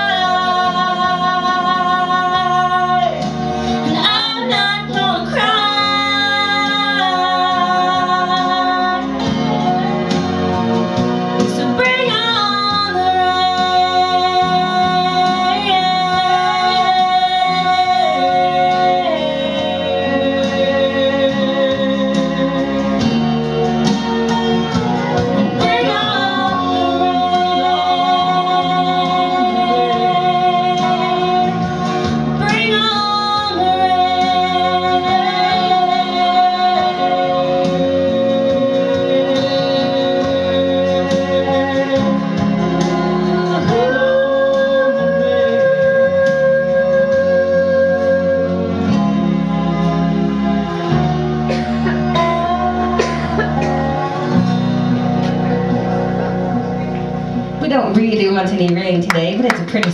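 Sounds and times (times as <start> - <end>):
woman singing country song: 0.0 - 10.6, 11.4 - 23.2, 23.8 - 50.0, 50.9 - 55.3
backing band playing: 0.0 - 59.9.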